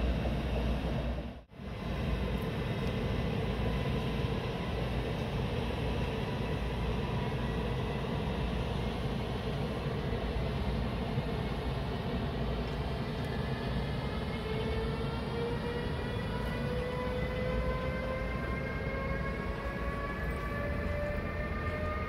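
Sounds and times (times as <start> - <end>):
distant trains rumbling: 0.0 - 22.0.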